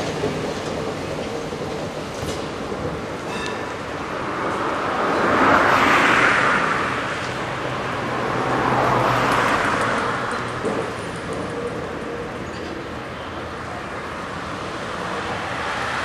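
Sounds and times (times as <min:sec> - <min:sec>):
cars passing: 0:00.0 - 0:16.0.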